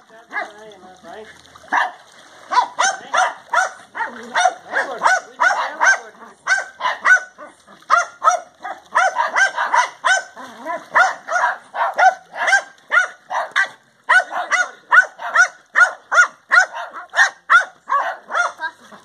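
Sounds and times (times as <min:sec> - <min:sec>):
dog barking in high yaps: 0:01.7 - 0:18.7.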